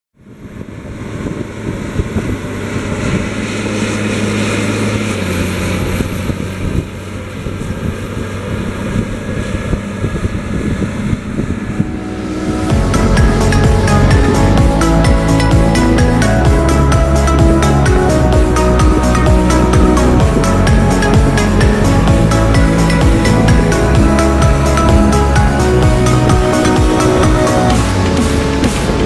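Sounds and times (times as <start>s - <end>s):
tractor diesel engine droning: 0.2s - 29.0s.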